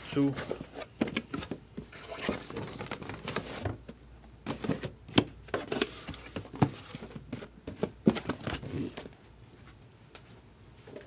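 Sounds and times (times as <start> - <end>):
rustling of cardboard and wrapping: 0.0 - 9.7
cardboard boxes tapping and knocking: 0.2 - 9.1.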